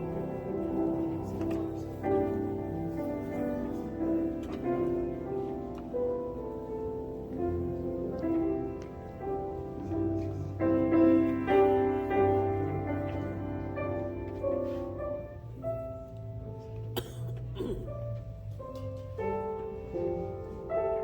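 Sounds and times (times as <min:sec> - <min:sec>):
slow instrumental music: 0:00.0 - 0:21.0.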